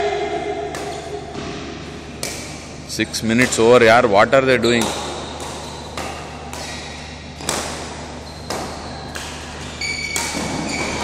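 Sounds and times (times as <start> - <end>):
racquets hitting shuttlecock: 0.7 - 4.0, 4.6 - 11.0.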